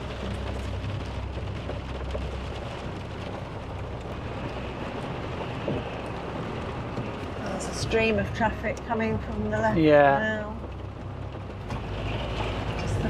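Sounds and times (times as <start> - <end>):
engine humming: 0.0 - 13.0
heavy rain on van roof: 0.0 - 13.0.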